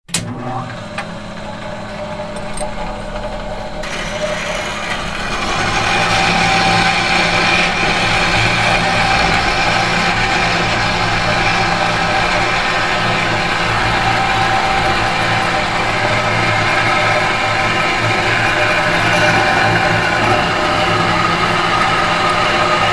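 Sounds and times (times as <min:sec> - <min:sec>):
machine hum with held tones: 0:00.1 - 0:22.9.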